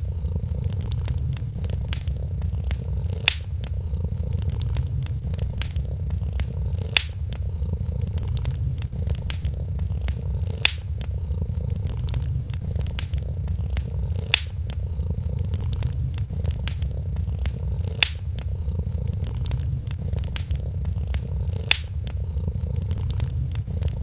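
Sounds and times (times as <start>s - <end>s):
cat purring: 0.0s - 24.0s
fire pops: 0.0s - 24.0s
wood fire crackling: 0.0s - 24.0s.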